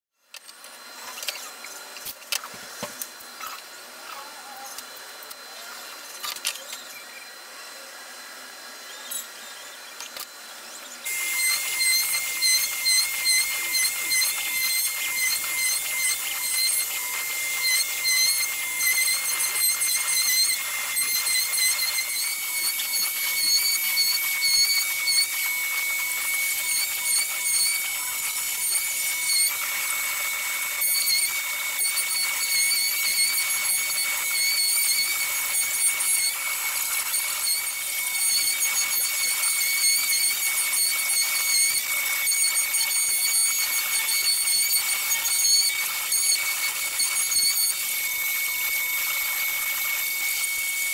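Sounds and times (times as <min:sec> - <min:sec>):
router spindle high-pitched whine: 0:00.2 - 0:50.9.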